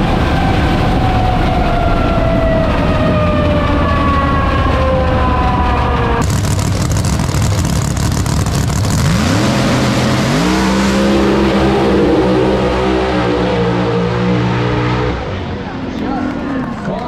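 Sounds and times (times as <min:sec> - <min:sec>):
drag race cars at full throttle: 0:00.0 - 0:17.0.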